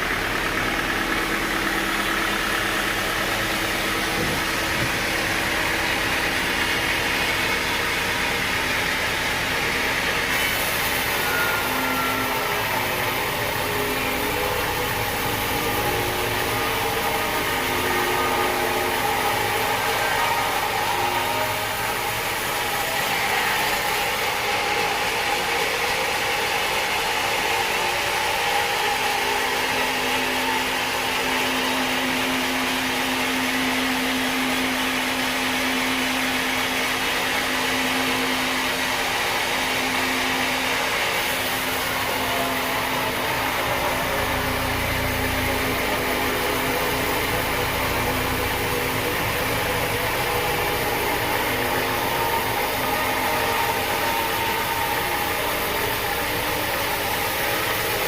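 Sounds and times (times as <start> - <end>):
sawmill machinery running: 0.0 - 58.0
steady hum: 0.0 - 58.0.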